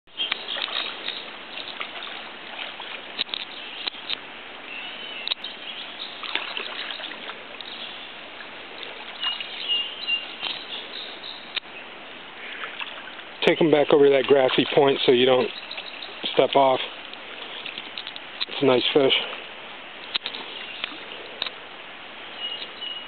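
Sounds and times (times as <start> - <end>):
birds chirping: 0.1 - 23.0
trickling water: 0.1 - 23.0.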